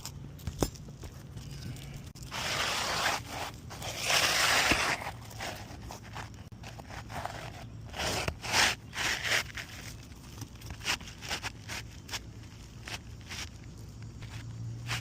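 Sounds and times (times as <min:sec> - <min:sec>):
scraping and crunching shingles: 0:01.1 - 0:15.0.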